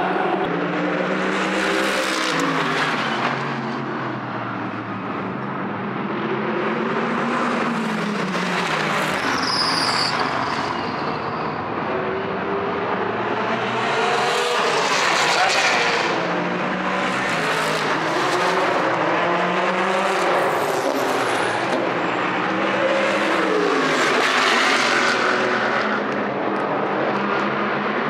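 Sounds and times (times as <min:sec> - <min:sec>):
race cars passing at speed: 0:00.0 - 0:28.0.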